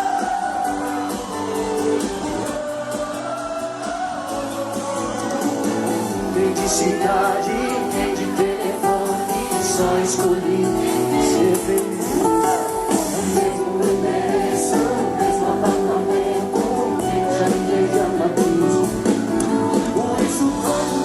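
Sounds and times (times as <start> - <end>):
person singing: 0.0 - 21.0
strummed guitar: 0.0 - 21.0.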